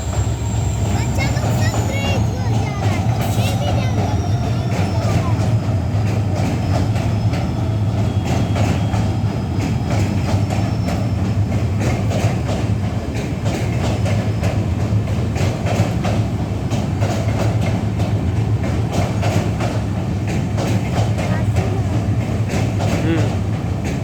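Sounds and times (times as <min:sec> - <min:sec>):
train low rumble: 0:00.0 - 0:24.0
train wheels clattering: 0:00.0 - 0:24.0.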